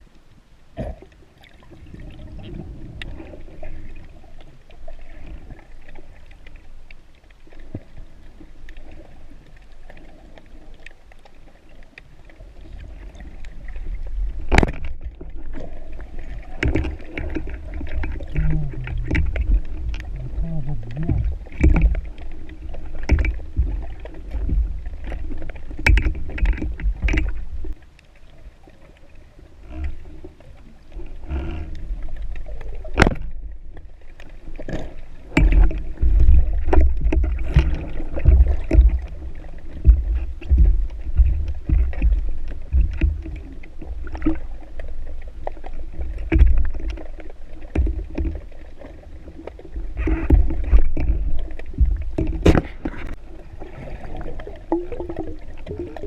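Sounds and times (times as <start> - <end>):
water sloshing and rumbling: 0.0 - 56.0.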